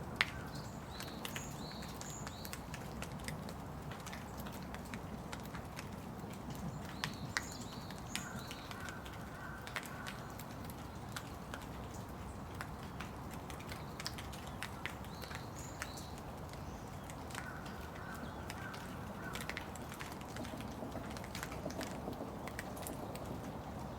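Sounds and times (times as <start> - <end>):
rain drops ticking: 0.0 - 23.9.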